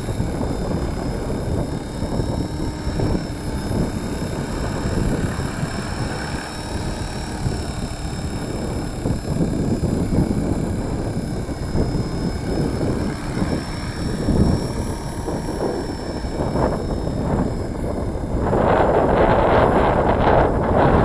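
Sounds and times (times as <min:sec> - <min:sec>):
rc helicopter whine: 0:00.0 - 0:21.0
wind buffeting microphone: 0:00.0 - 0:21.0.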